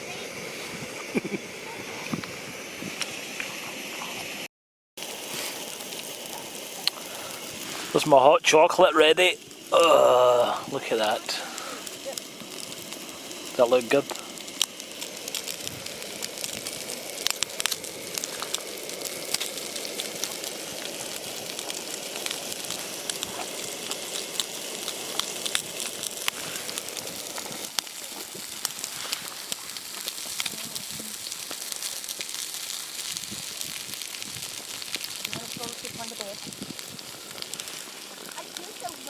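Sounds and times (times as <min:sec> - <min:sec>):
campfire crackling and popping: 0:00.0 - 0:39.0
steady hiss: 0:00.0 - 0:39.0.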